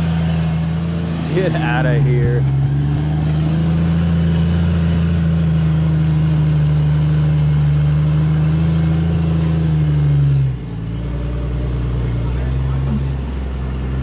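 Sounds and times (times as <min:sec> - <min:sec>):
buggy engine at high revs: 0:00.0 - 0:14.0.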